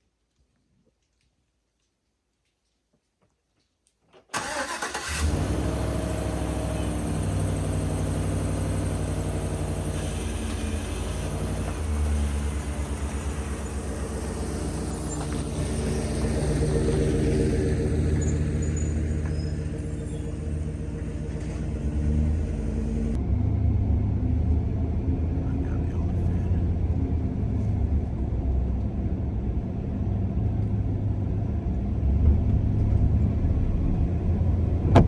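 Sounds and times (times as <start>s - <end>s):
vehicle engine running: 5.0s - 35.0s.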